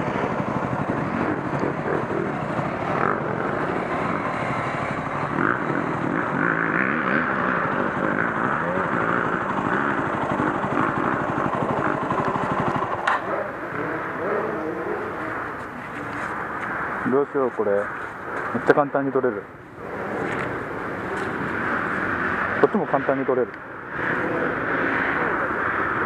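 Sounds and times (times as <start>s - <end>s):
dirt bike engine idling: 0.0s - 24.4s.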